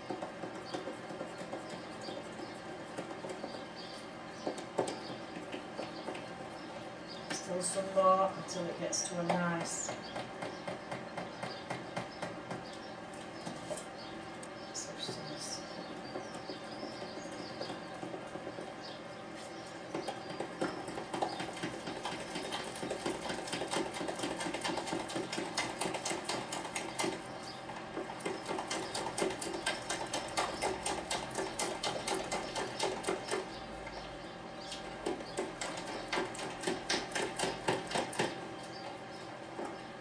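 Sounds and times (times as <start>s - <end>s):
batter beaten in a plastic jug: 0.0s - 7.5s, 9.0s - 13.8s, 15.2s - 34.0s, 34.8s - 40.0s.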